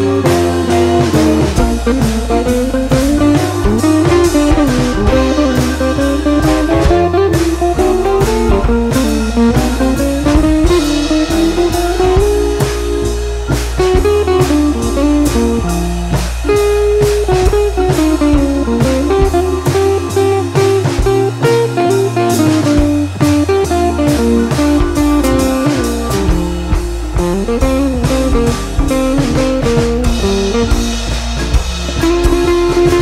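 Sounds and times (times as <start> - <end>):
bass: 0.0 - 33.0
guitar melody: 0.0 - 33.0
steady drum beat: 0.0 - 33.0.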